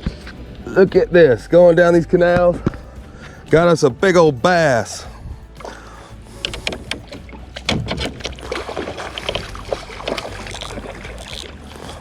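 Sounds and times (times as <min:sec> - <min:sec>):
knocks and clicks aboard kayak: 0:00.0 - 0:01.1, 0:01.8 - 0:12.0.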